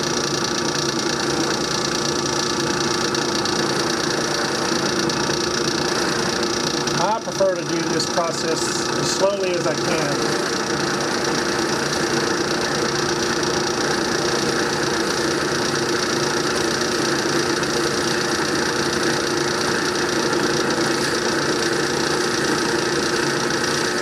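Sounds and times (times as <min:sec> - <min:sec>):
drill press boring into wood: 0:00.0 - 0:24.0.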